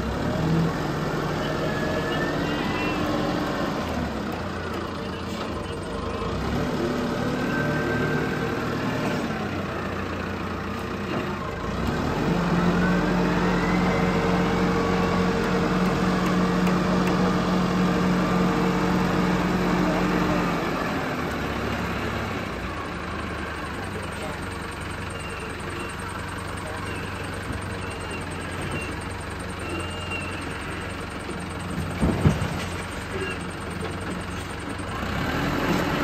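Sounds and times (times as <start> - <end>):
diesel engine revving: 0.0 - 36.0.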